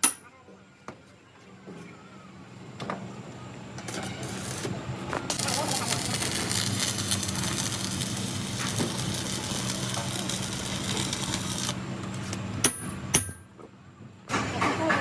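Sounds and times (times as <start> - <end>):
workshop machine humming: 0.4 - 15.0.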